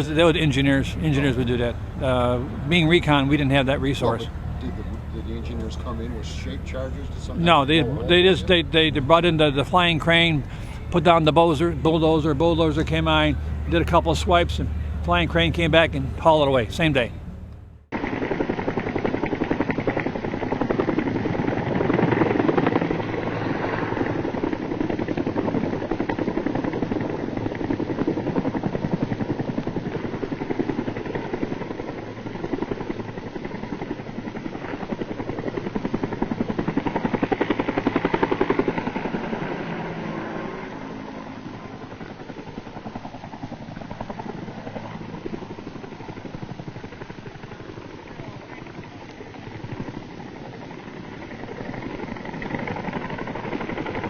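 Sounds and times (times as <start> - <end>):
helicopter rotor chopping: 0.0 - 54.0.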